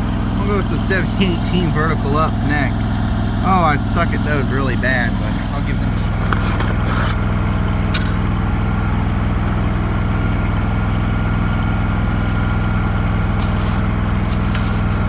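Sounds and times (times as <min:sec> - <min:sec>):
engine-driven generator running: 0:00.0 - 0:15.0.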